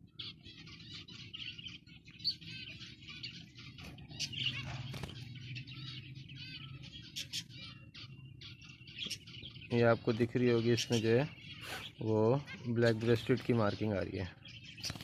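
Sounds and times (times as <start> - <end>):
finches chirping: 0.0 - 15.0.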